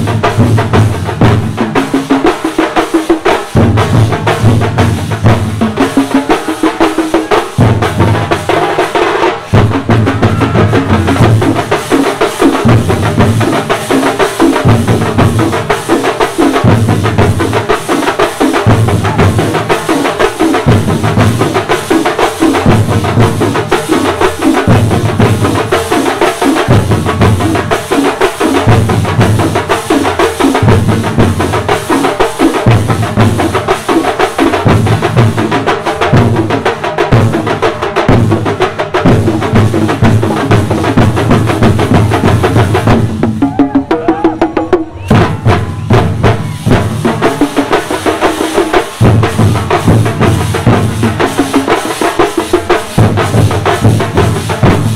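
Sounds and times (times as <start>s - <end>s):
massed drums playing fast rhythm: 0.0s - 54.9s.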